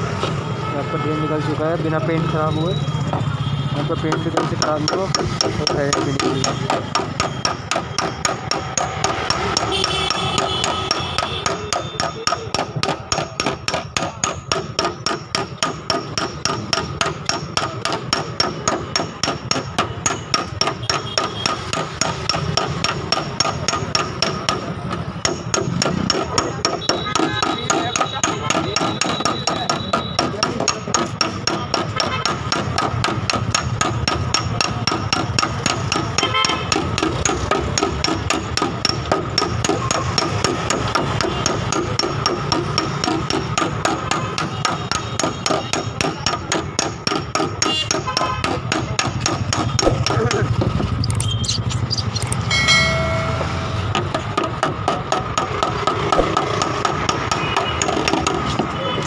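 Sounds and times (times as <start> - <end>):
hammer tapping sheet metal: 3.8 - 50.9, 52.3 - 58.8.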